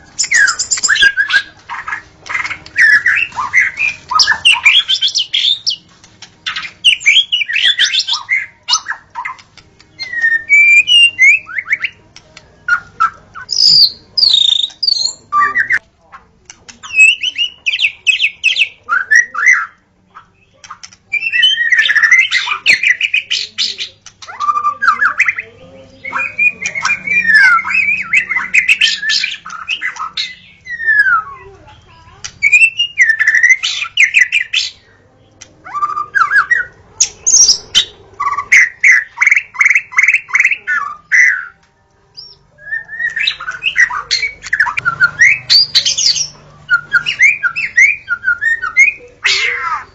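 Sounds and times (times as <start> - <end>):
songbird whistling song: 0.0 - 15.8, 16.8 - 49.9.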